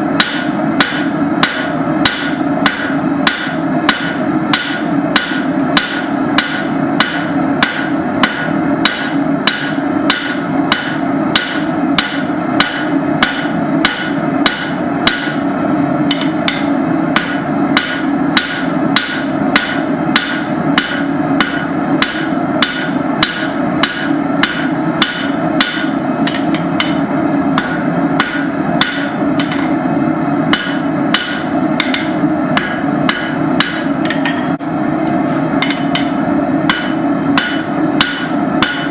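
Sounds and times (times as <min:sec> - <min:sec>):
hammer striking steel on anvil: 0:00.1 - 0:29.9, 0:30.5 - 0:34.7, 0:35.6 - 0:38.9.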